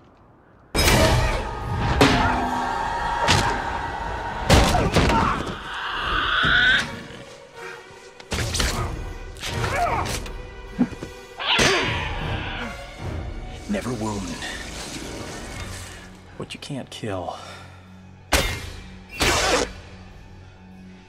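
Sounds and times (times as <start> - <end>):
action film score music: 0.0 - 21.0.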